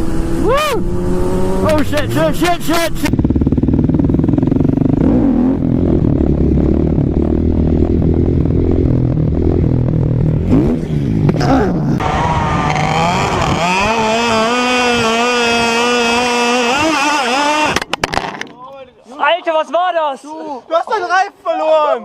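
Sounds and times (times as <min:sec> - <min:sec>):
motorcycle engine rumbling: 0:00.0 - 0:18.9.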